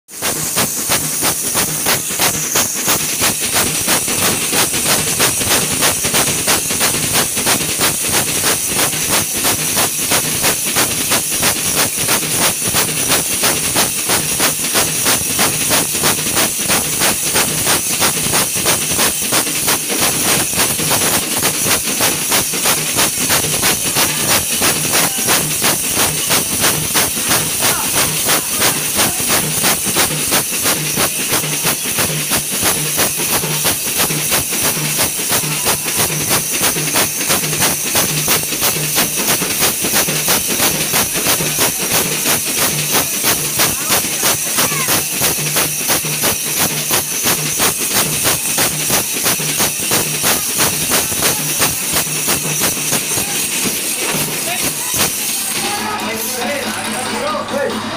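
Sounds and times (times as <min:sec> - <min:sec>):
brass cymbals clashing: 0:00.1 - 0:57.9
frame drums beating: 0:00.1 - 0:57.9.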